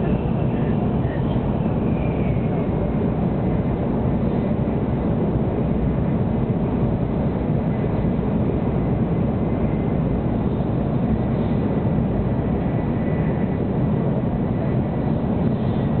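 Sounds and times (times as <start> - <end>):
train rumble and rush: 0.0 - 16.0.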